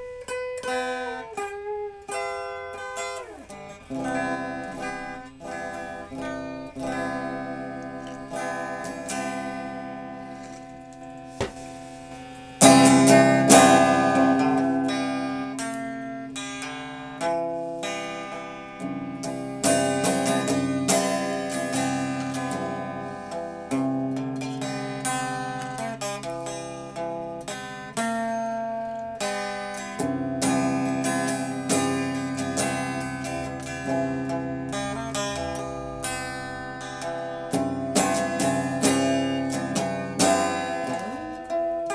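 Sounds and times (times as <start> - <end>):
plucked string instrument music: 0.0 - 41.9.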